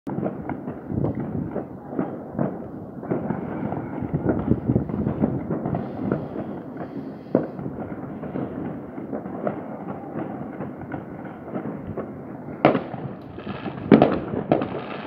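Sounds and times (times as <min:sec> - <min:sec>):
firecrackers crackling and banging: 0:00.1 - 0:15.0.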